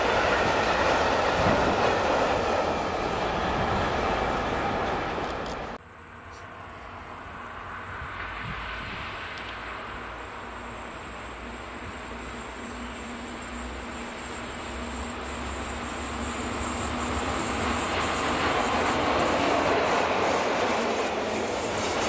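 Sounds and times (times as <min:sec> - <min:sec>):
train passing with rail noise: 0:00.0 - 0:22.0.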